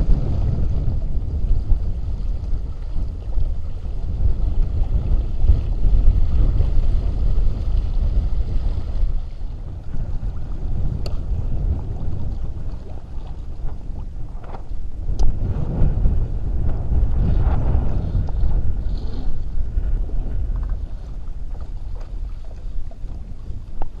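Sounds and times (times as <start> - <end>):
water hissing along a hull: 0.0 - 24.0
wind buffeting microphone: 0.0 - 24.0.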